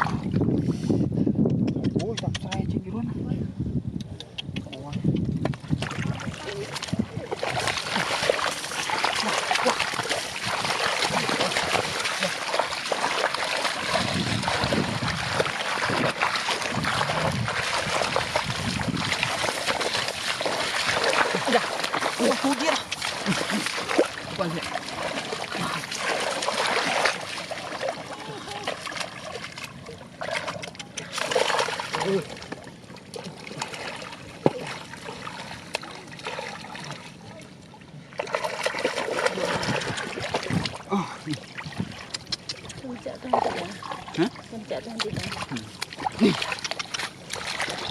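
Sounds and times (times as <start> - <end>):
muddy water sloshing and splashing: 0.0 - 0.9, 5.4 - 47.9
water dripping: 5.8 - 37.0, 38.2 - 47.9.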